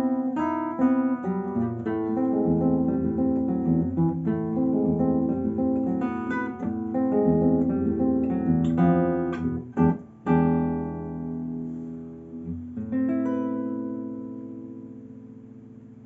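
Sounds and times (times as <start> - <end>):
fingerstyle classical guitar: 0.0 - 16.0.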